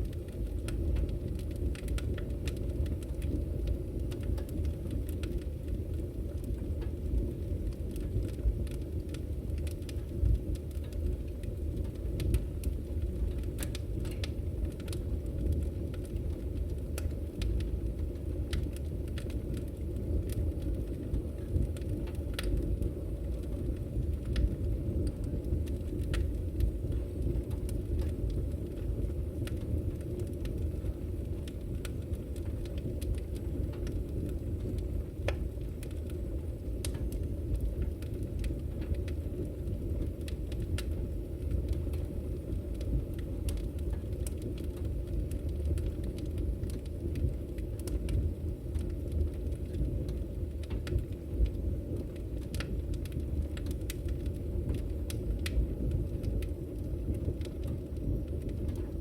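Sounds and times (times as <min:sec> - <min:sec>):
fire rumbling in wood stove: 0:00.0 - 0:59.0
logs crackling and popping: 0:00.0 - 0:59.0.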